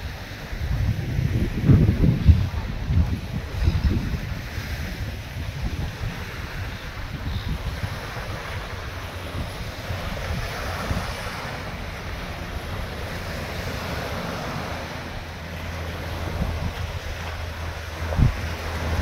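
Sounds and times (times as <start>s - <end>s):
small waves breaking: 0.0s - 19.0s
wind buffeting microphone: 0.0s - 19.0s.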